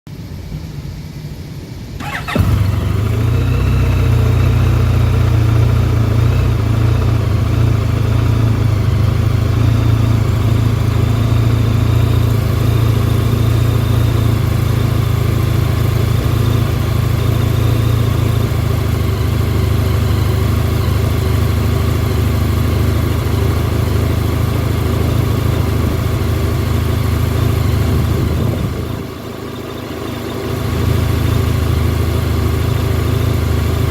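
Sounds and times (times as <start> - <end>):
motorcycle engine idling: 2.0 - 33.9
motorcycle engine starting: 2.0 - 33.9.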